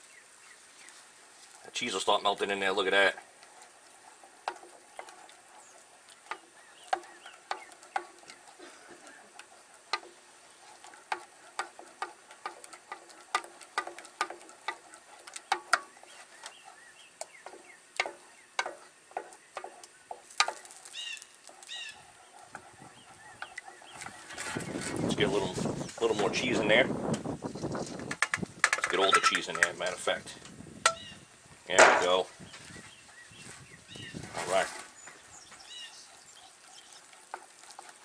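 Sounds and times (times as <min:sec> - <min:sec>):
wooden spoon stirring in saucepan: 0:00.2 - 0:30.4, 0:31.6 - 0:38.0.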